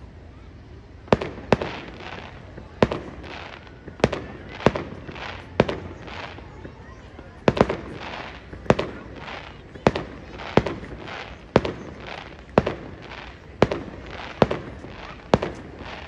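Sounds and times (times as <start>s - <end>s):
fireworks bursting with sharp bangs: 1.0s - 16.0s.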